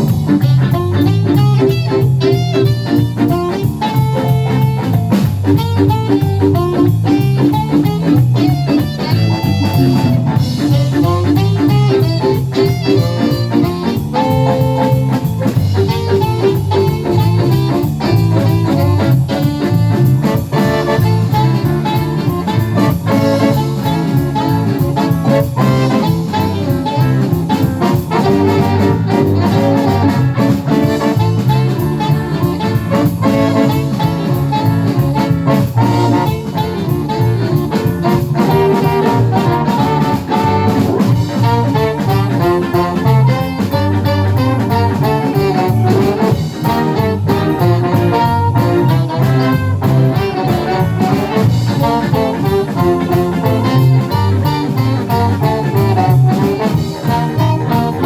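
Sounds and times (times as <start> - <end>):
live jazz band playing: 0.0 - 58.0
saxophone and horn lines: 0.0 - 58.0.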